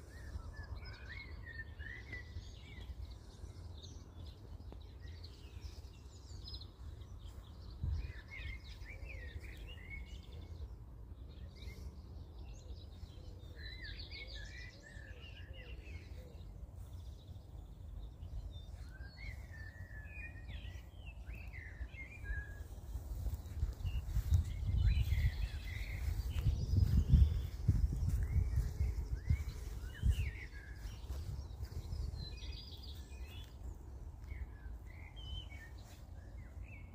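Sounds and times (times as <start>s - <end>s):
songbirds singing and chirping: 0.0s - 36.9s.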